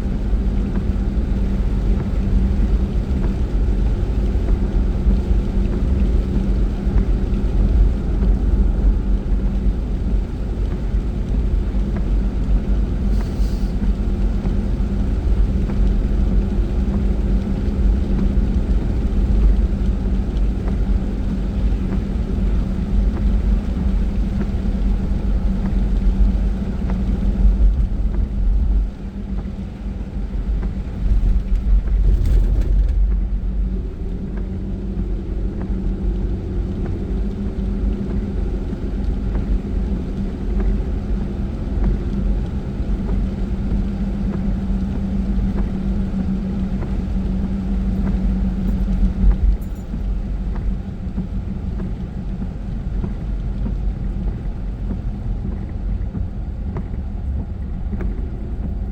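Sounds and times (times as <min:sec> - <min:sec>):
car engine and tyres rumbling: 0:00.0 - 0:58.9.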